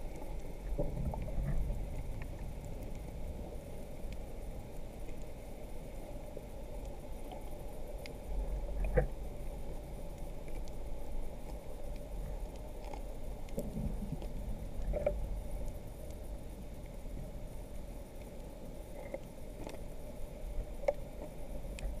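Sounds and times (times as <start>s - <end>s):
muffled underwater rumble: 0.0s - 22.0s
steady hum: 0.0s - 22.0s.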